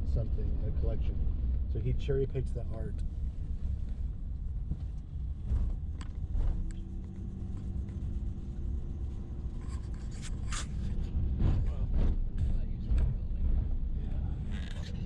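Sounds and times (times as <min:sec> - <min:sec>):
vehicle road rumble: 0:00.0 - 0:15.0.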